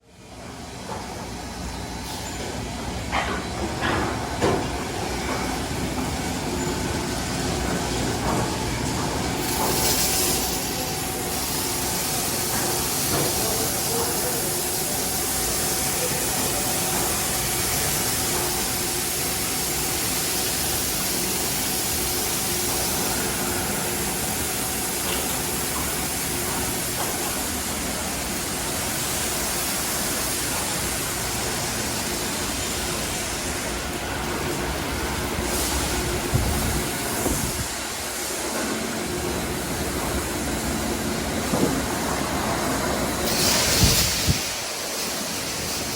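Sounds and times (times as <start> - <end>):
pumps and motors humming: 0.2 - 45.9.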